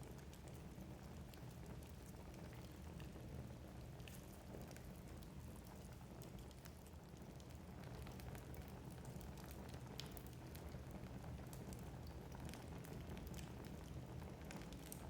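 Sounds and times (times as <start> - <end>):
crackles and pops of burning logs: 0.0 - 15.0
low rumble of flames: 0.0 - 15.0.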